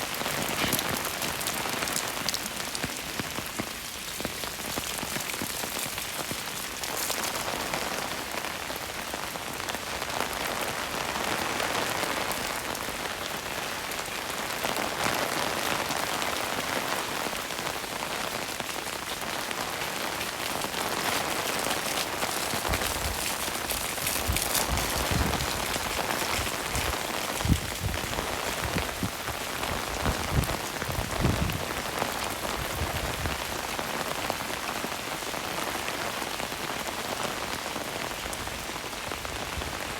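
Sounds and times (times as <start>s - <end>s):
rain on a wet street: 0.0s - 39.9s.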